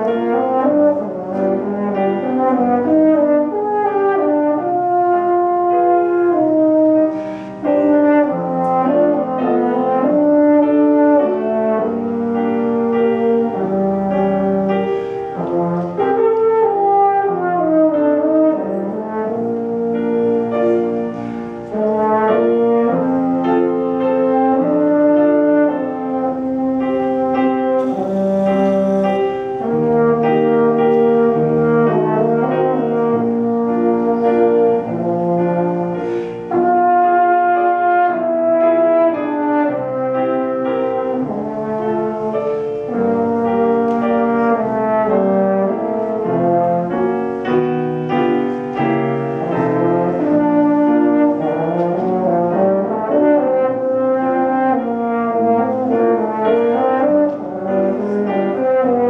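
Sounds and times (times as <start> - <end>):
french horn melody: 0.0 - 59.0.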